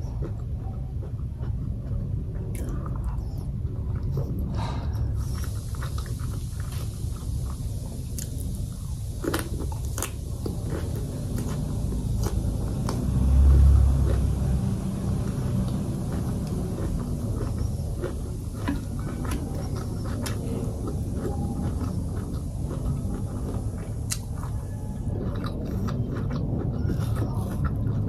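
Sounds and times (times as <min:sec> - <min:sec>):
chewing mouth sounds: 0:00.0 - 0:28.0.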